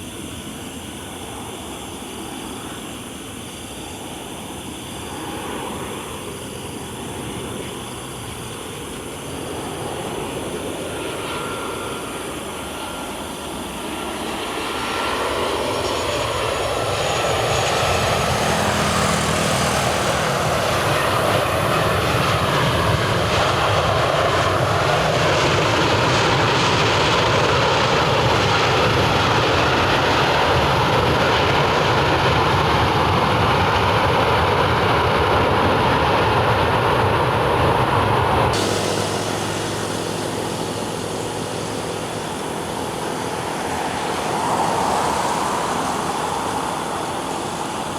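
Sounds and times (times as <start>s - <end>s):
jet engine roar: 0.0s - 47.9s.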